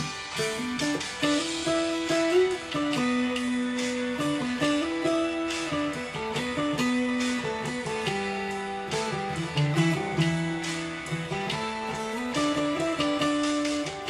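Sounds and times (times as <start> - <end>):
picked guitar melody: 0.0 - 14.0
strummed guitar chords: 0.0 - 14.0.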